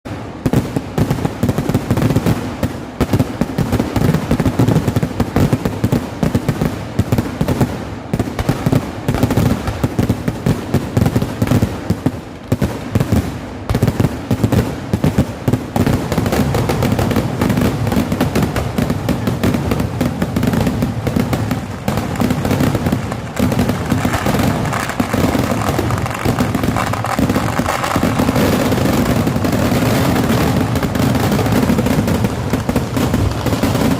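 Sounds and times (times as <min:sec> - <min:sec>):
rapid firecracker bangs: 0:00.0 - 0:33.9.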